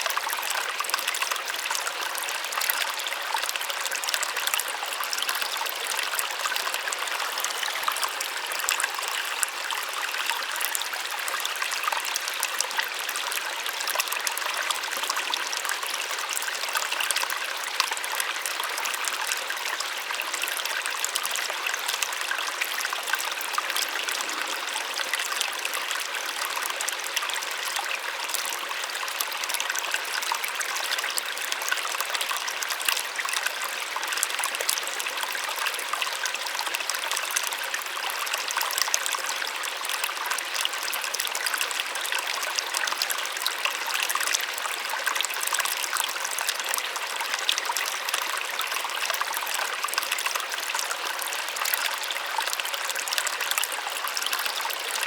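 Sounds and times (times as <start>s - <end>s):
small waterfall splashing: 0.0s - 55.0s.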